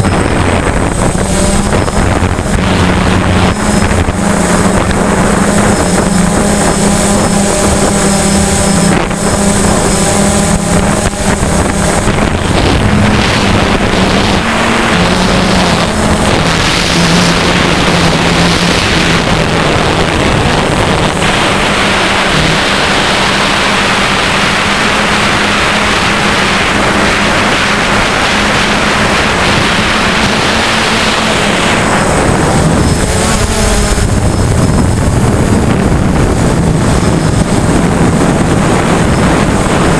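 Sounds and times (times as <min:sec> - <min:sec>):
drone propellers buzzing: 0:00.0 - 0:39.9
wind hiss on microphone: 0:00.0 - 0:39.9.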